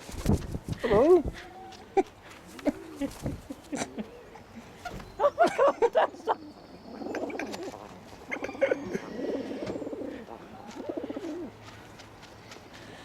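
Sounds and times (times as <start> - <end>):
birds cooing: 0.7 - 11.6.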